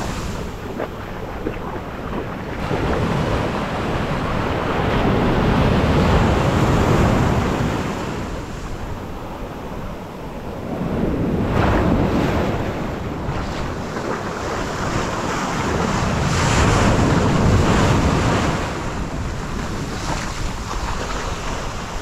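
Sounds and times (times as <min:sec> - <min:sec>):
ocean surf breaking on sand: 0:00.0 - 0:22.0.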